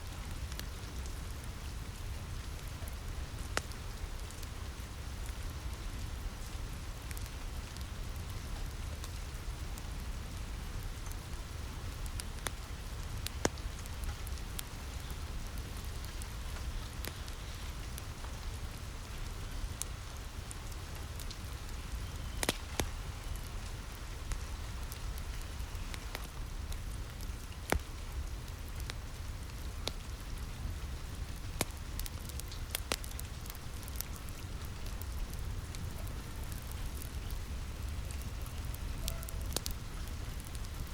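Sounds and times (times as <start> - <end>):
rain on a roof: 0.0 - 40.9
wood fire crackling pops: 0.2 - 4.6, 5.2 - 9.4, 10.3 - 18.8, 19.6 - 40.9.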